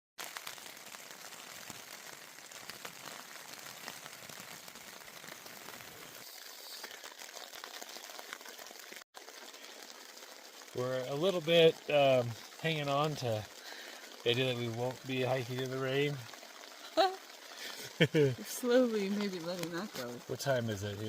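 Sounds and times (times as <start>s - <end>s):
rain pattering on a tent: 0.2s - 21.0s.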